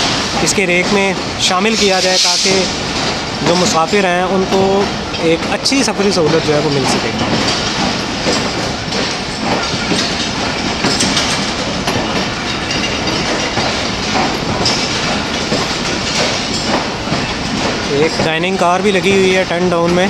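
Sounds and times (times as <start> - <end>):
train rumbling past: 0.0 - 20.0
wheels clattering over rail joints: 0.0 - 20.0.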